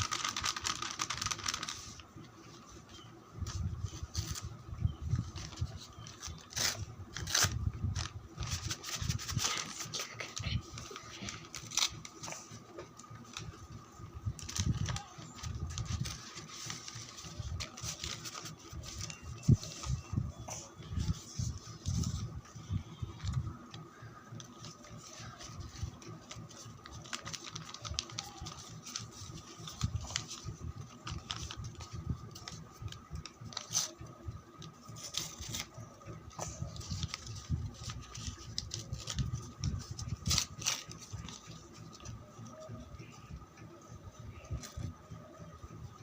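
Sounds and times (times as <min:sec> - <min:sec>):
packaging rustling: 0:00.0 - 0:02.1, 0:03.5 - 0:13.8, 0:14.4 - 0:20.2, 0:23.2 - 0:42.8
faint steady hum: 0:00.0 - 0:46.0.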